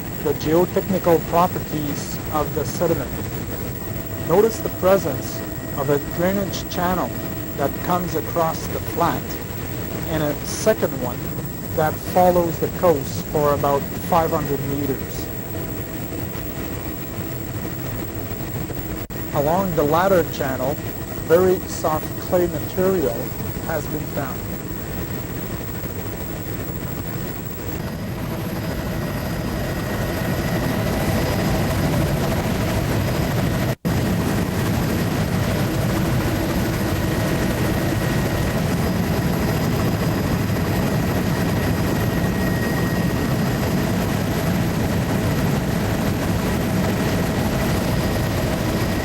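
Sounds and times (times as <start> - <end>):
aircraft engine cabin noise: 0.0 - 49.0.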